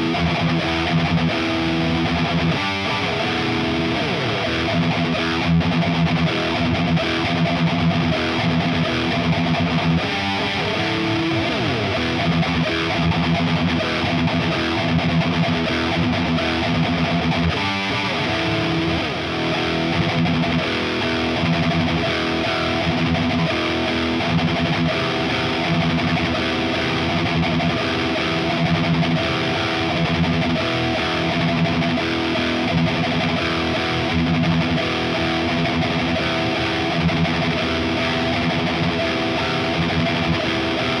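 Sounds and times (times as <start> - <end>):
distorted electric guitar riffing: 0.0 - 41.0.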